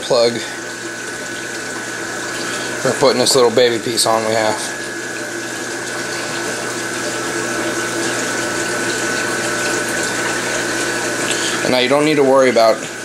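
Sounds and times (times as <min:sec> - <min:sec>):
flowing water rushing: 0:00.0 - 0:13.0
pump humming: 0:00.0 - 0:13.0.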